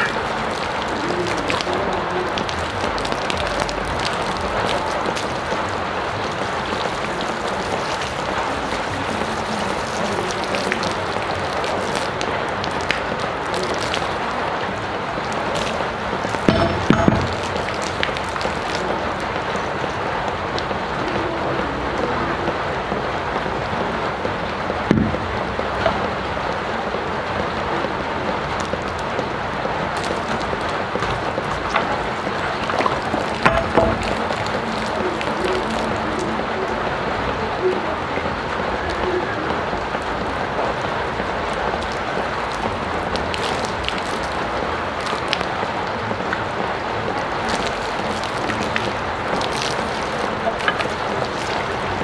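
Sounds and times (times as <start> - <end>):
water splashing on pavement: 0.0 - 52.0.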